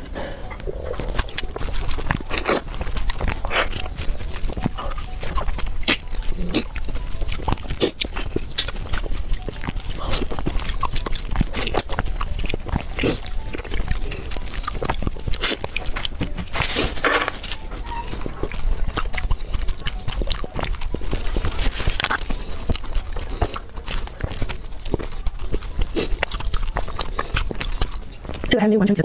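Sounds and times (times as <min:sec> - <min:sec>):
slurping: 0:00.0 - 0:28.5
wet chewing and lip smacking: 0:00.0 - 0:29.0.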